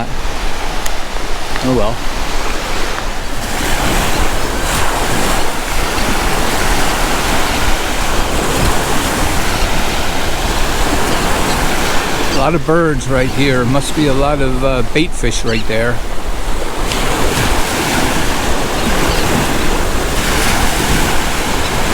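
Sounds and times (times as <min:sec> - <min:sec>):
waves washing onto sand: 0:00.0 - 0:21.9
wind buffeting microphone: 0:00.0 - 0:21.9.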